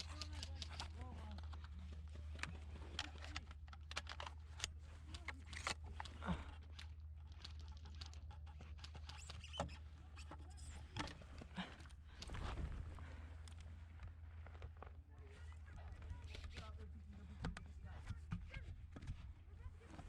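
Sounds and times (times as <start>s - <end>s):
soft clicks and rustles: 0.0s - 20.0s.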